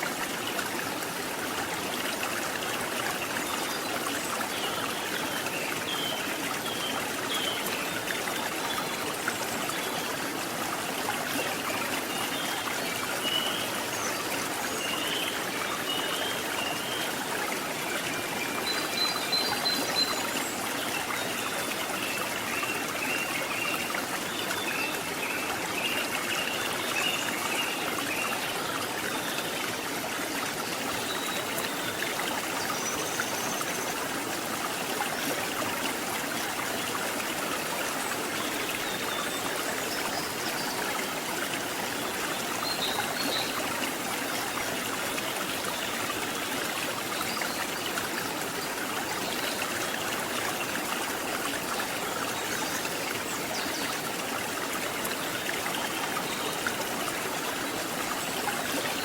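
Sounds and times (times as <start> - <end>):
stream water running: 0.0 - 59.0.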